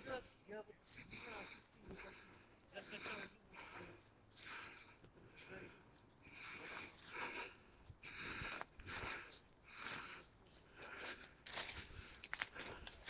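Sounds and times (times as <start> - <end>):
person breathing close to microphone: 0.3 - 13.0.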